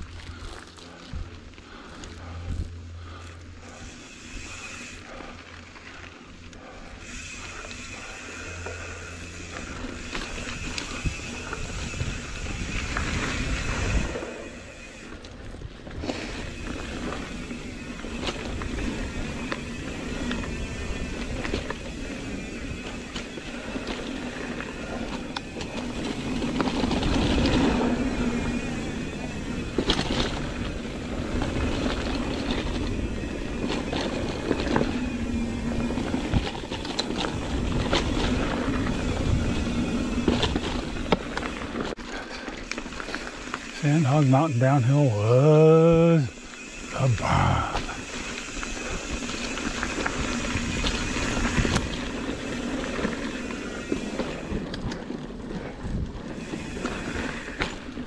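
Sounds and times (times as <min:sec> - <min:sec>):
bike rattling over bumps: 0:00.0 - 0:58.0
bike tyre and wind noise: 0:00.0 - 0:58.0.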